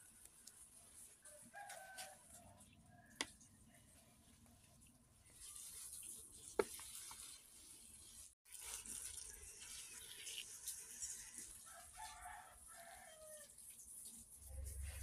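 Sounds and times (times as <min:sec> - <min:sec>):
water trickling onto soil: 0:00.0 - 0:15.0.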